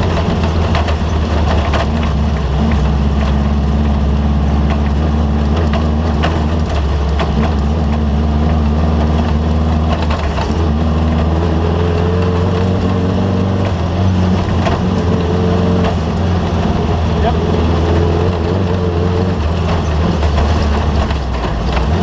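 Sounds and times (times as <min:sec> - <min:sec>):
race vehicle engine running: 0:00.0 - 0:22.0
sharp knocks and rattles: 0:00.0 - 0:22.0.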